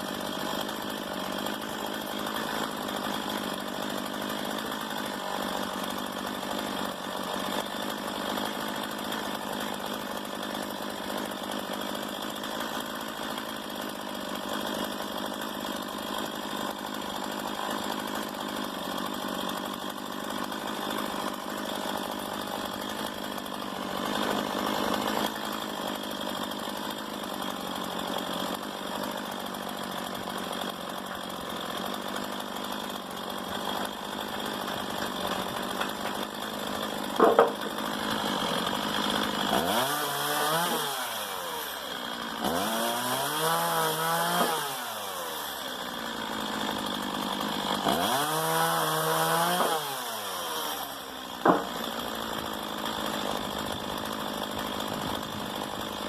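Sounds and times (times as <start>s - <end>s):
chainsaw running: 0.0s - 56.0s.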